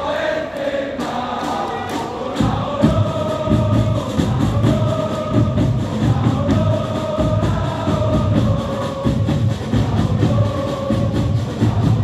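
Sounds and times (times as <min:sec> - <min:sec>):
crowd chanting in unison: 0:00.0 - 0:12.0
drum beat: 0:01.0 - 0:12.0.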